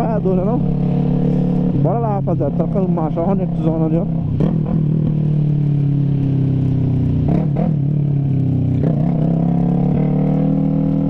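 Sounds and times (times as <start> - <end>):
motorcycle engine riding: 0.0 - 11.0.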